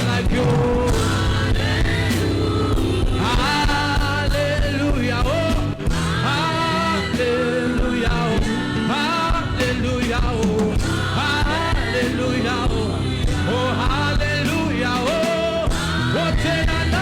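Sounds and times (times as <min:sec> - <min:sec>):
live worship band: 0:00.0 - 0:17.0
people singing: 0:00.0 - 0:17.0.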